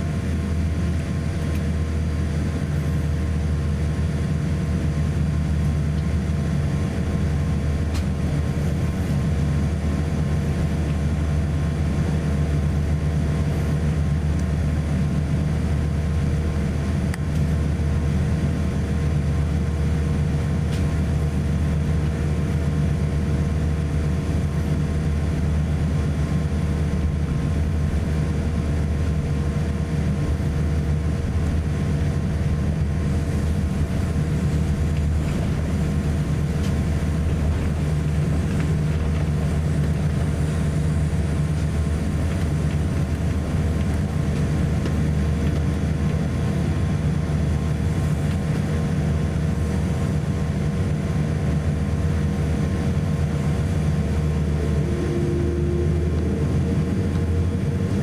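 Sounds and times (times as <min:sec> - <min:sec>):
airplane cabin hum: 0:00.0 - 0:58.0
steady engine tones: 0:00.0 - 0:58.0.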